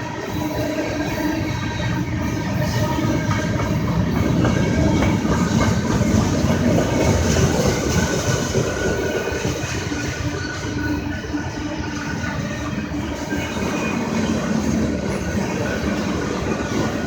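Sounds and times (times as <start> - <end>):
freight train wheels rumbling and clacking: 0.0 - 17.0.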